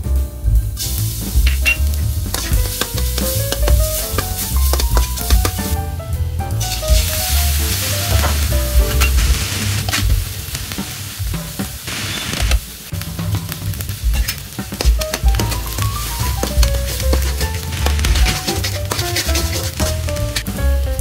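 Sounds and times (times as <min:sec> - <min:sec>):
background music with low beat: 0:00.0 - 0:11.8, 0:12.9 - 0:21.0
garlic sizzling in hot oil: 0:00.8 - 0:05.8, 0:06.6 - 0:21.0.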